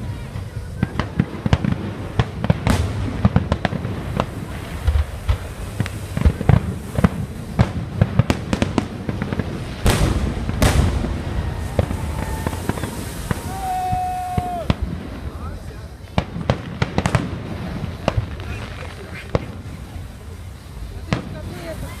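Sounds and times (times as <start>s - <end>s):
big firework bangs with rushing tail: 0.0s - 22.0s
fireworks cracking and booming: 0.0s - 22.0s.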